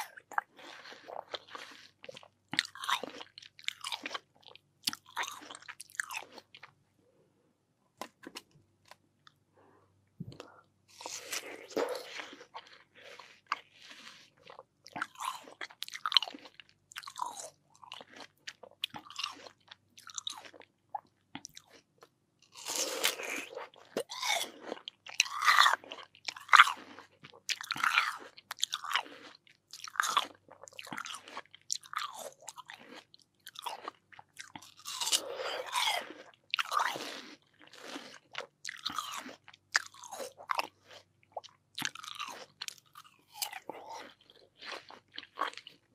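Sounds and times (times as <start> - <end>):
crunchy bites and chewing: 0.0 - 6.8, 8.0 - 9.4, 10.2 - 45.9.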